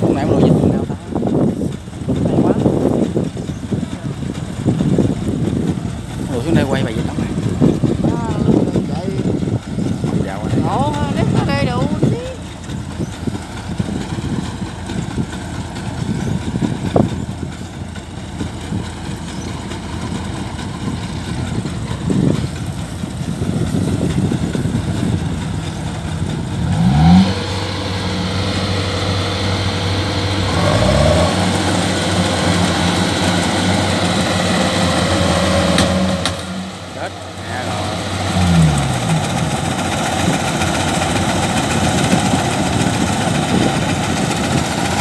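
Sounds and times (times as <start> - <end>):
combine harvester diesel engines: 0.0 - 45.0.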